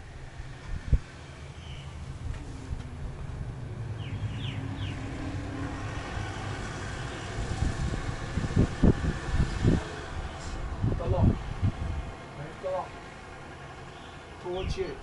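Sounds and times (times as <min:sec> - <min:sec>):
wind on microphone: 0:00.0 - 0:12.2
car driving past: 0:00.0 - 0:14.4.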